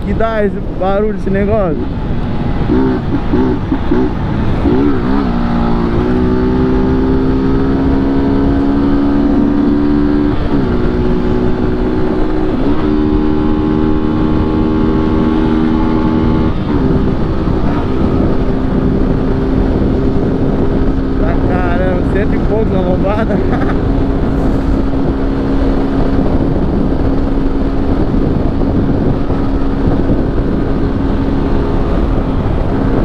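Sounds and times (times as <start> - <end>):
motorcycle engine with loud exhaust: 0.0 - 33.0.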